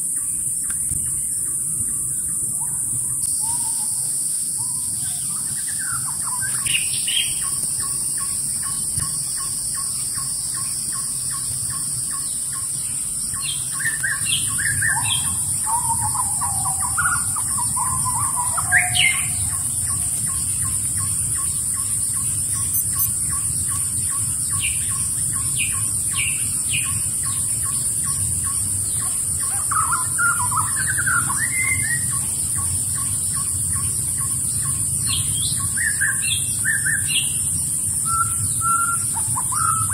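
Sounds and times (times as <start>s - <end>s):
steady high-pitched hiss: 0.0s - 39.9s
birds chirping: 4.6s - 39.9s.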